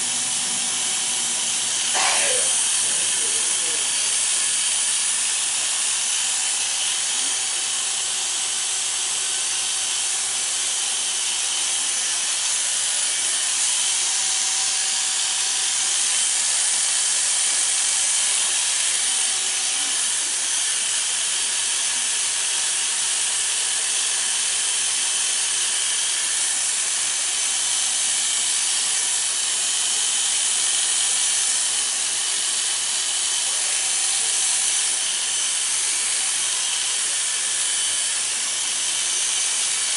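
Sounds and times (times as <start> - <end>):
electric hair clippers running: 0.0 - 39.9.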